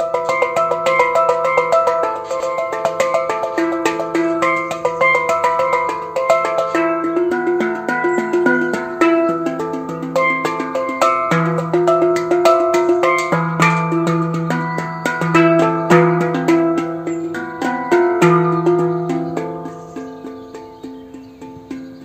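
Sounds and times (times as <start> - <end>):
instrumental film music: 0.0 - 22.0.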